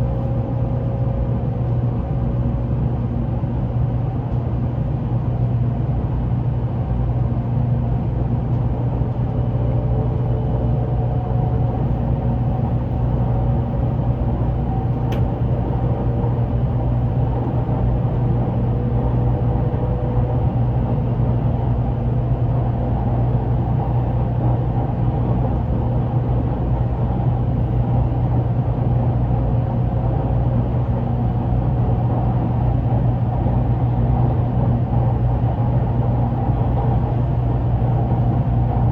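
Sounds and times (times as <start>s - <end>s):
train cabin rumble and hum: 0.0s - 38.9s.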